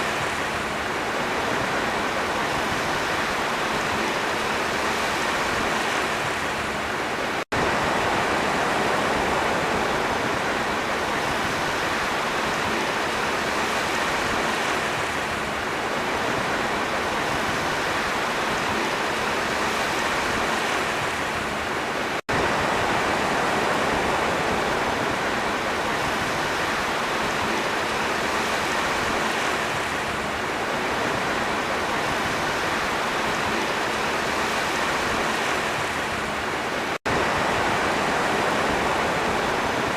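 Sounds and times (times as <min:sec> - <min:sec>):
sea waves and surf: 0:00.0 - 0:39.9.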